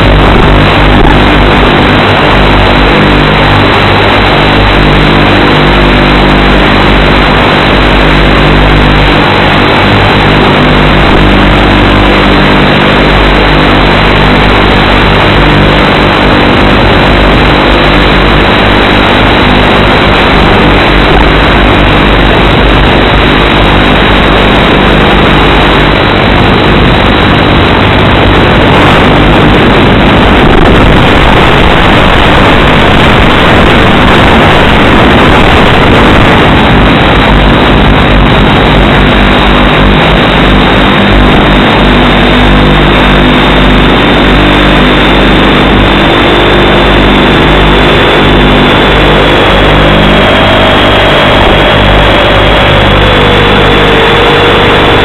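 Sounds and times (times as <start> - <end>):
low hum: 0.0 - 55.0
propeller and wind rushing: 0.0 - 55.0.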